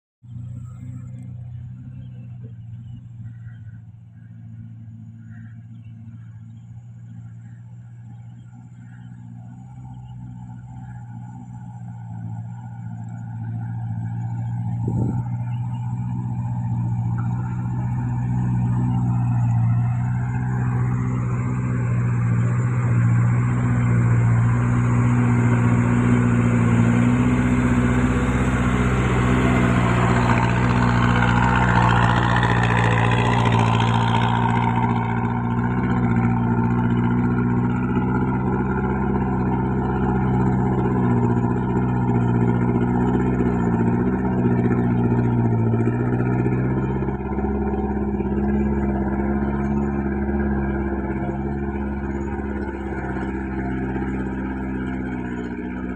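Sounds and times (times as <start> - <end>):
truck diesel engine pulling uphill: 0.2 - 55.9.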